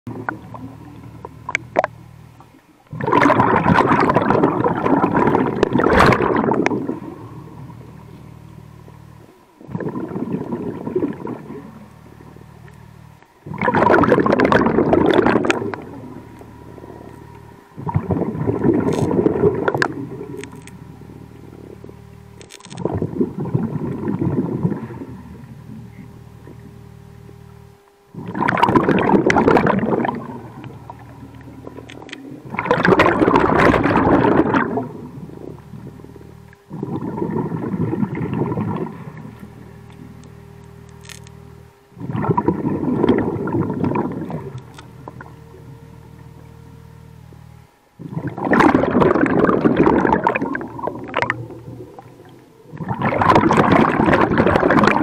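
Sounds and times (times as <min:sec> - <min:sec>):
low steady hum: 0:00.0 - 0:55.0
diver exhaling bubbles underwater: 0:00.1 - 0:02.0, 0:02.9 - 0:08.3, 0:09.2 - 0:12.5, 0:13.4 - 0:20.4, 0:22.8 - 0:26.8, 0:28.1 - 0:40.2, 0:42.0 - 0:45.8, 0:48.0 - 0:55.0.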